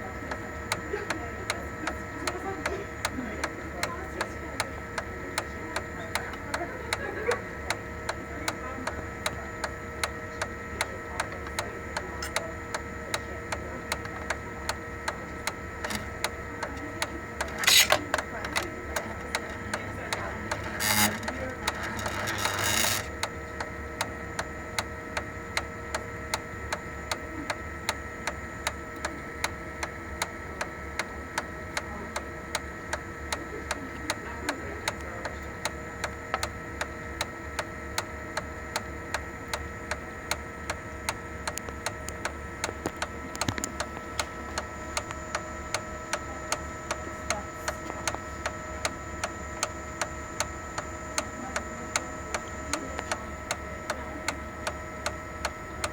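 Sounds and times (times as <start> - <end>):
copier gear ticking: 0.0 - 55.9
copier hum: 0.0 - 55.9.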